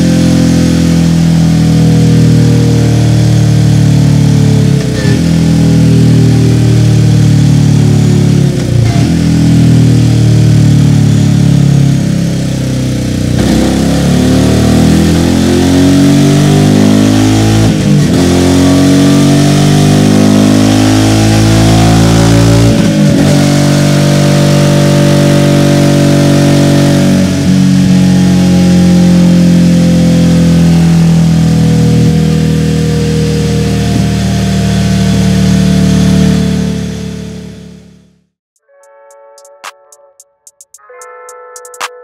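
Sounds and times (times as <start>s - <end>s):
motorcycle engine running hard: 0.0s - 38.2s.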